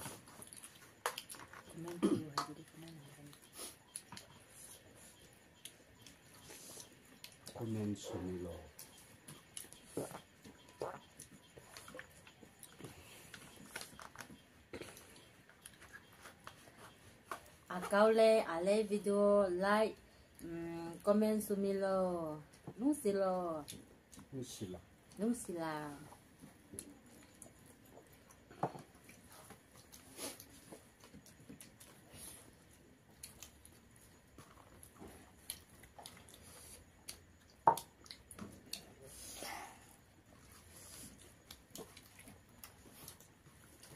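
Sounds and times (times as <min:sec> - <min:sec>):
chewing sounds: 0:00.0 - 0:17.7, 0:26.0 - 0:43.9.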